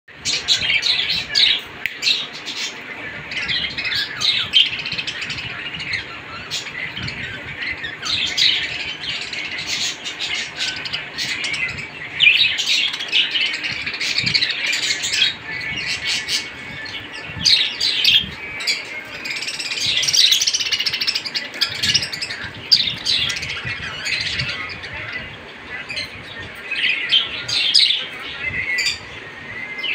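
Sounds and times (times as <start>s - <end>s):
budgerigars chirping and chattering: 0.1s - 29.9s.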